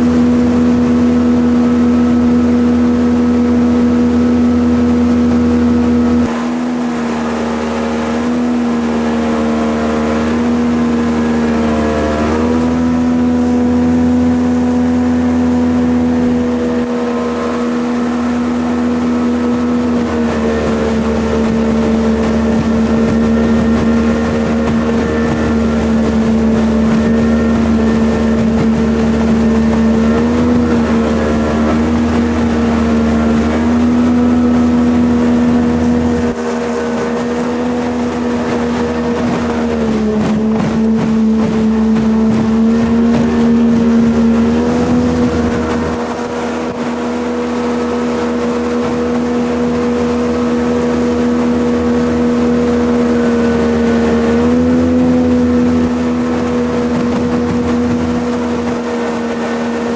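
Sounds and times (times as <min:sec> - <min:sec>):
boat engine running: 0:00.0 - 0:59.9
wind: 0:00.0 - 0:59.9.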